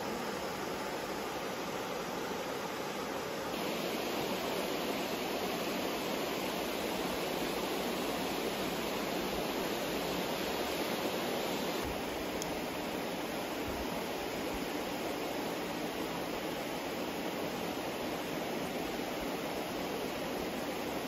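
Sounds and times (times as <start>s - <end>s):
river flowing over rocks: 0.0s - 21.0s.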